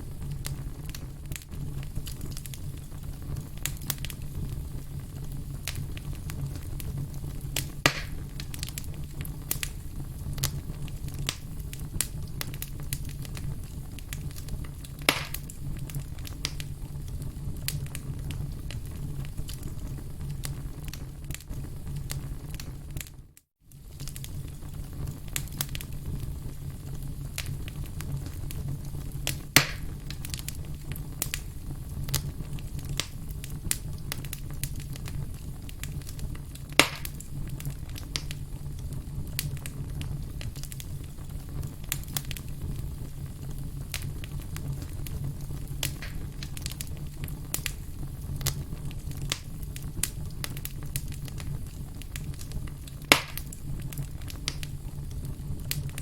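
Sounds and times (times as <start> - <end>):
campfire crackling: 0.0 - 23.1, 23.7 - 56.0
sharp fire pops: 0.0 - 23.1, 23.7 - 56.0.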